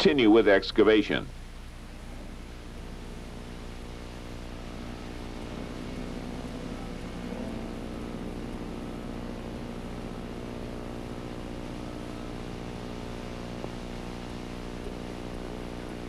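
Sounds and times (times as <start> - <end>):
diesel engine running: 1.3 - 16.0.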